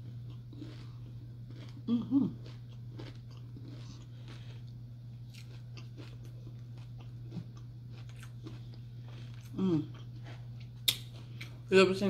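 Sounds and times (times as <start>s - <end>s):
chewing crunches: 0.0s - 11.6s
steady low hum: 0.0s - 12.0s.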